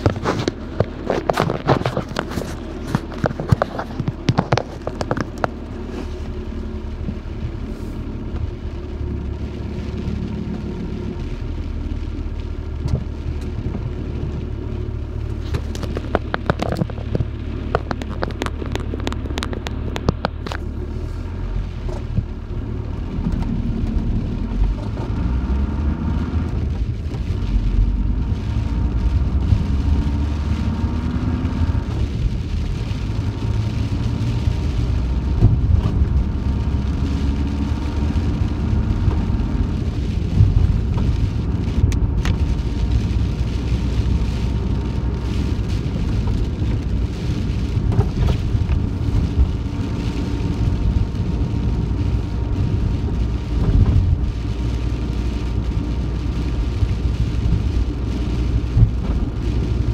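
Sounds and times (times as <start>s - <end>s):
rain drumming on roof: 0.0s - 59.9s
van engine and road rumble: 0.0s - 59.9s.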